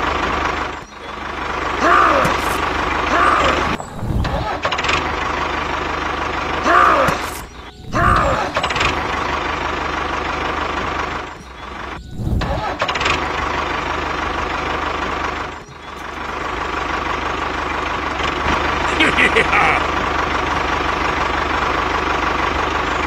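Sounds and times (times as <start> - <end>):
engine rev: 0.0 - 23.0
engine sound effect: 0.0 - 23.0.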